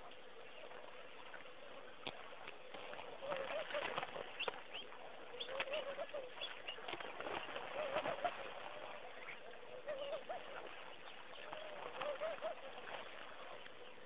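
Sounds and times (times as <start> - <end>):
water splashing: 0.0 - 14.0
doves cooing: 2.7 - 14.0.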